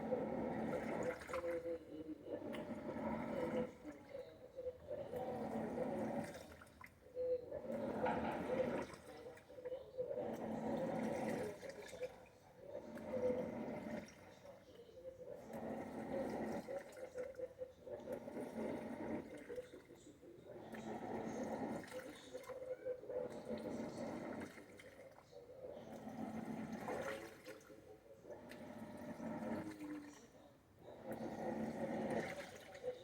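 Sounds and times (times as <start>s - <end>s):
washing machine churning water: 0.0s - 33.0s.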